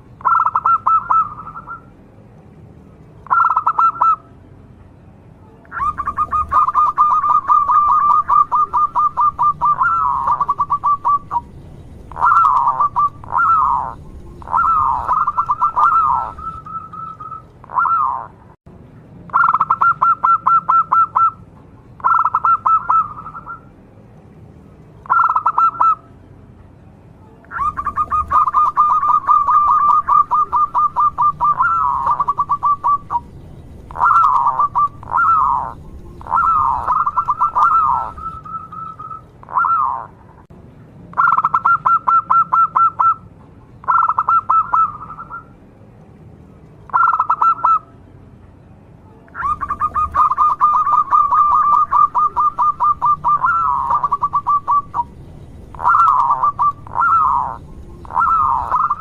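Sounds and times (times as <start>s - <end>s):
dove trilling song: 0.0s - 2.0s, 3.2s - 4.3s, 5.6s - 18.5s, 19.3s - 23.7s, 25.0s - 26.1s, 27.4s - 40.2s, 41.1s - 45.6s, 46.9s - 47.9s, 49.3s - 59.0s.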